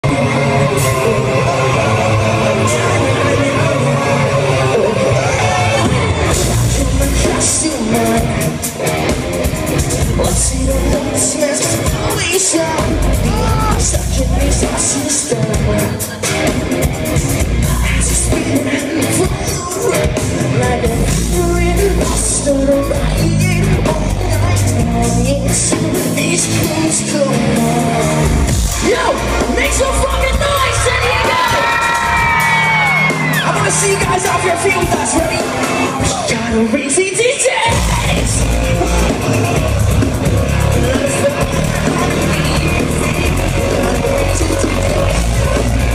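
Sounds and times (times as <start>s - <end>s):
heavy bass line: 0.0s - 36.6s, 37.7s - 45.9s
drums: 0.0s - 45.9s
man singing: 0.0s - 45.9s.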